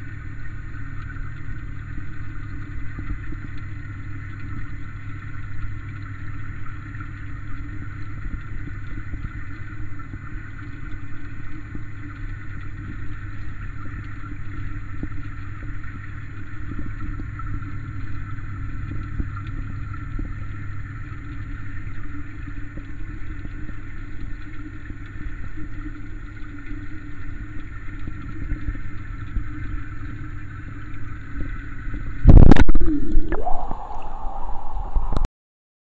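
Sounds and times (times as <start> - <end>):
water pump humming: 0.0 - 35.3.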